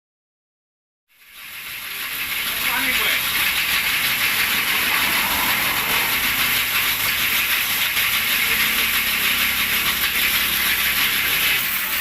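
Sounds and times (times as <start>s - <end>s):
machine running with steady hiss: 1.1s - 12.0s.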